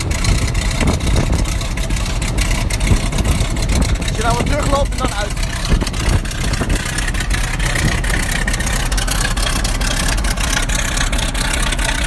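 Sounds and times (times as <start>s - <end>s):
radial engine idling: 0.0s - 12.0s.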